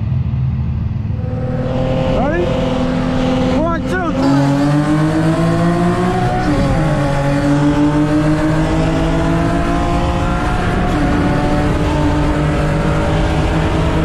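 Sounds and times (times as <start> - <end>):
car engine under full throttle: 0.0 - 14.0.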